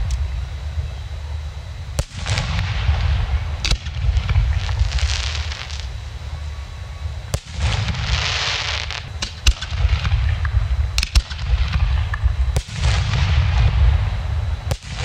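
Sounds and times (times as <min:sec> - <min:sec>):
high hiss: 0:00.0 - 0:15.0
low rumble: 0:00.0 - 0:15.0
fireworks bangs: 0:02.0 - 0:15.0.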